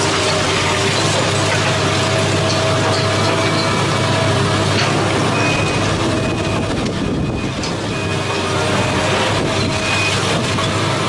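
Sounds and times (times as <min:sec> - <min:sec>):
excavator diesel engine and hydraulics: 0:00.0 - 0:11.0
other site machines: 0:00.0 - 0:11.0.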